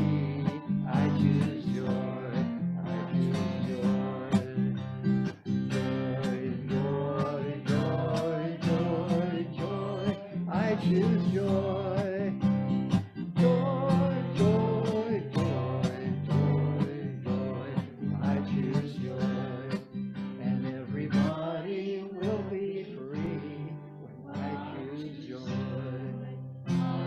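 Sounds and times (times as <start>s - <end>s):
acoustic guitar strumming: 0.0s - 27.0s
person singing: 0.0s - 27.0s.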